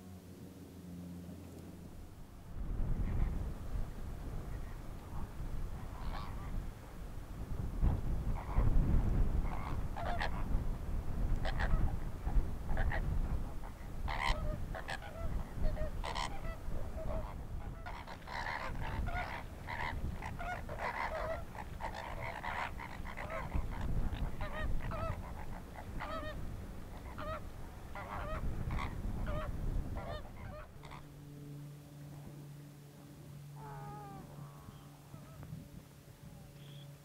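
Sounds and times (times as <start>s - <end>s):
flamingos honking: 2.8s - 7.1s, 7.8s - 37.0s.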